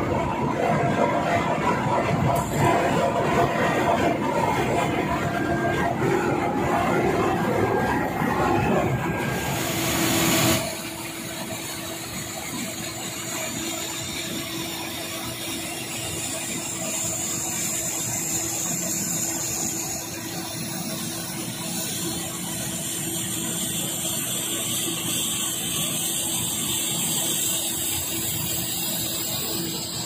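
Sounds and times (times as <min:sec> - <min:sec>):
conveyor machinery hum: 0:00.0 - 0:30.0.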